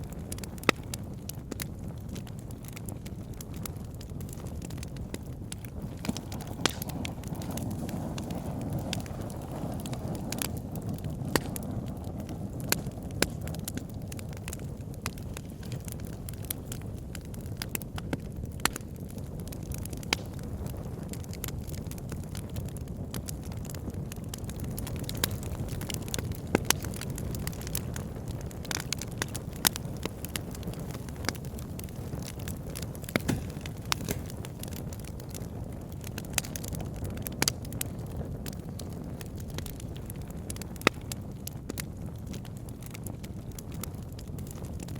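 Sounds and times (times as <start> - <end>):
fire crackling in a fireplace: 0.0 - 44.9.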